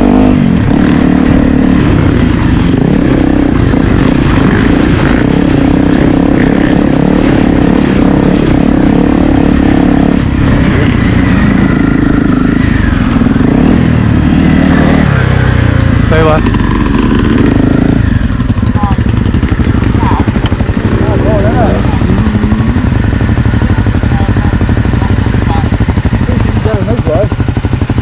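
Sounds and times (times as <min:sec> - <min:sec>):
motorcycle engine running under load: 0:00.0 - 0:28.0.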